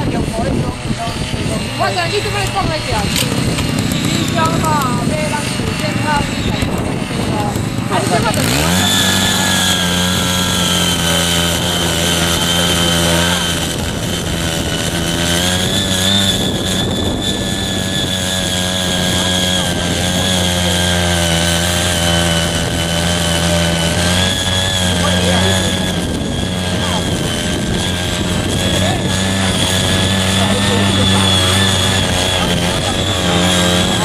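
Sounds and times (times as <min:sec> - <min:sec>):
small petrol engine running: 0:00.0 - 0:34.0.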